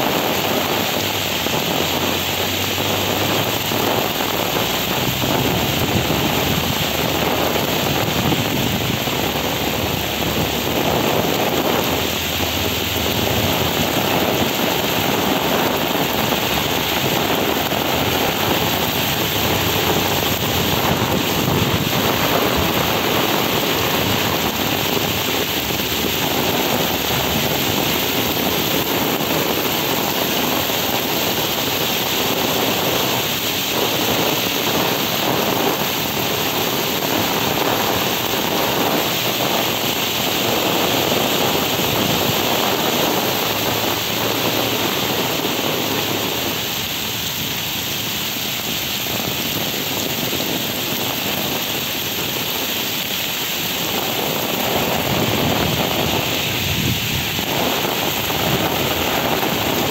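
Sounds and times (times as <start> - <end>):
heavy rain on paved street: 0.0 - 59.9.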